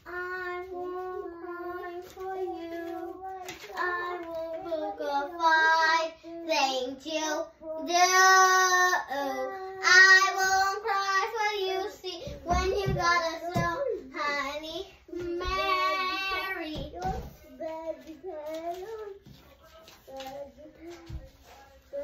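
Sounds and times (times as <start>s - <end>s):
child singing: 0.0s - 22.0s.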